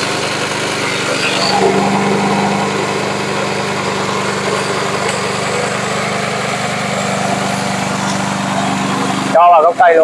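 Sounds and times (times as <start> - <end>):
mower engine running: 0.0 - 10.0.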